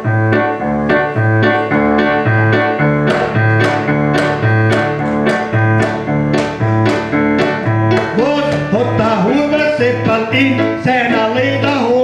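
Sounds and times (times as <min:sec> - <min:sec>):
keyboard playing piano sound: 0:00.0 - 0:12.0.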